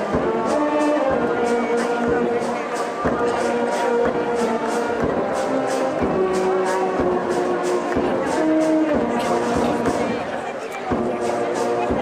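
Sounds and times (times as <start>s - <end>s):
brass instruments holding notes: 0.0s - 12.0s
quick percussion beat: 0.0s - 12.0s.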